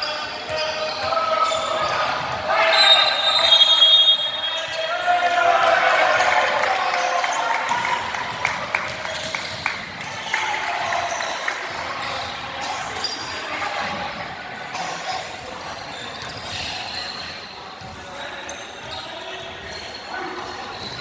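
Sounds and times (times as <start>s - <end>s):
crowd murmur: 0.0s - 21.0s.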